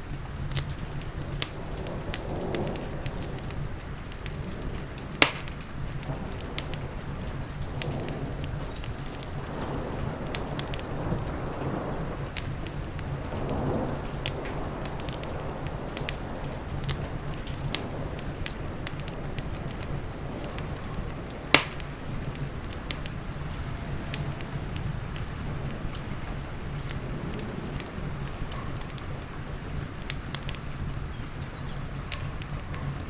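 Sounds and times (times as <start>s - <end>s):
low steady rumble: 0.0s - 33.0s
rain: 0.0s - 33.0s
wood fire crackling: 0.0s - 33.0s.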